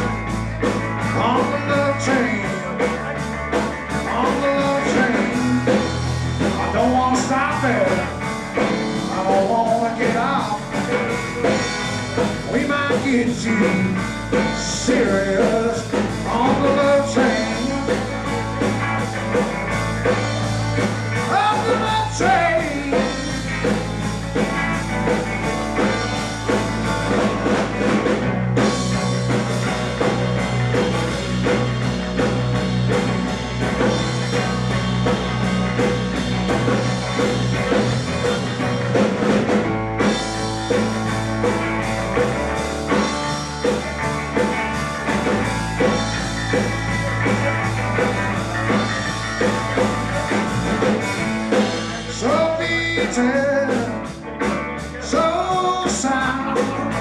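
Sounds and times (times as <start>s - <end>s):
drums steady beat: 0.0s - 57.0s
live rock band instrumental: 0.0s - 57.0s.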